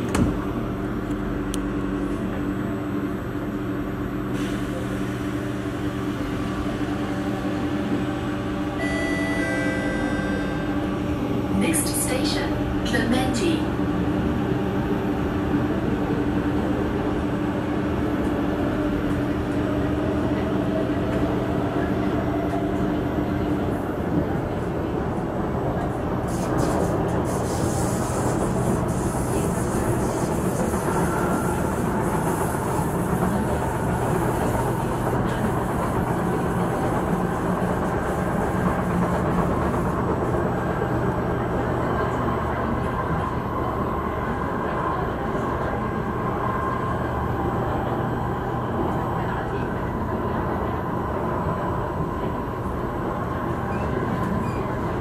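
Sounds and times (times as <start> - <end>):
train rolling noise: 4.2 - 55.0.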